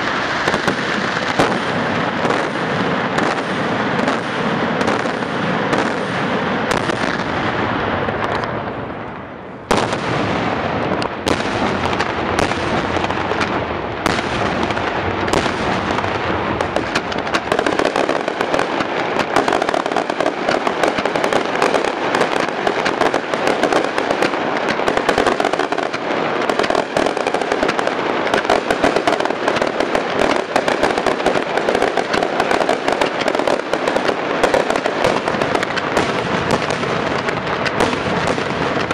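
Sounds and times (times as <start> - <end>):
sharp firework blast: 0.0 - 9.0, 9.6 - 38.9
firecrackers crackling: 0.0 - 38.9.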